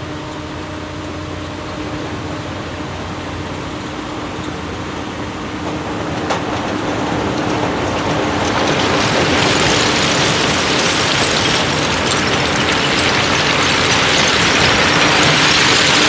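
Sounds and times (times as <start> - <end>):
heavy machinery diesel engine running: 0.0 - 16.0.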